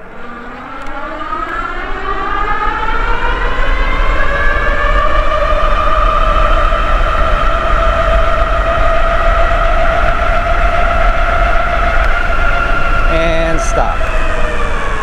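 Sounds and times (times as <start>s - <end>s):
wind rumble on microphone: 0.8s - 15.0s.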